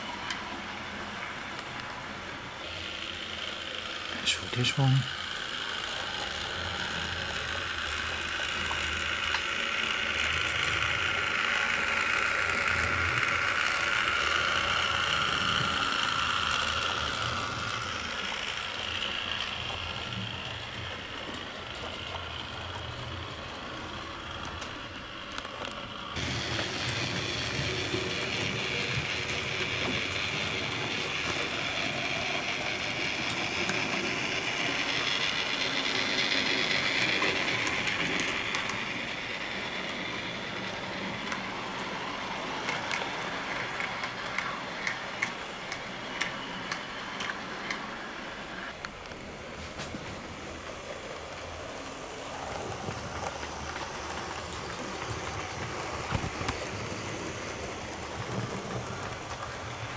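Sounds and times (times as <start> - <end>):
model train motor whine: 0.0 - 59.9
wheels clicking over rails: 1.2 - 59.9.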